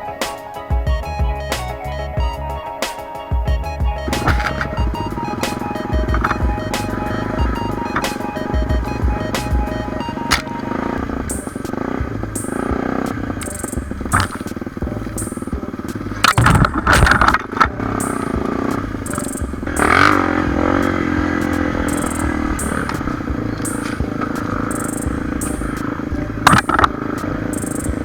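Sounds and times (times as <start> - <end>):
dirt bike engine running: 3.3 - 28.0.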